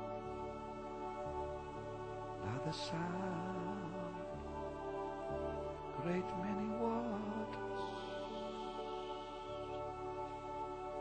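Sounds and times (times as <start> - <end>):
person singing: 0.0 - 11.0
worship song accompaniment chords: 0.0 - 11.0.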